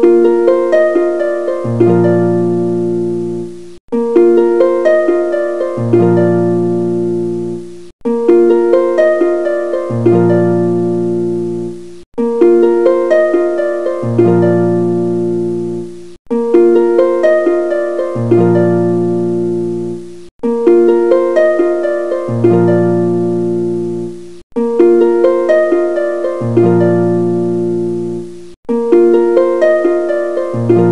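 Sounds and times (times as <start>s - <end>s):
plucked harp-like melody: 0.0s - 30.9s.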